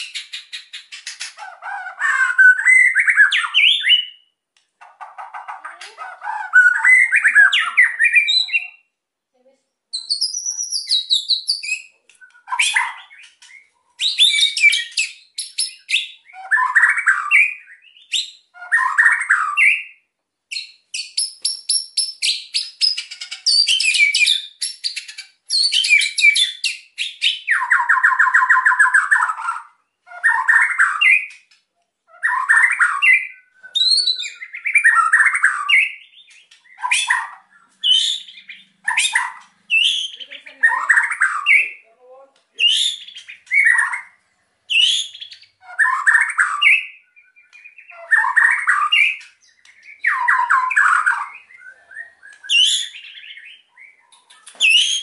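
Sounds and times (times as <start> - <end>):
bird singing whistled phrases: 2.0 - 4.3, 6.4 - 8.9, 9.9 - 31.4, 32.1 - 41.8, 42.6 - 55.0.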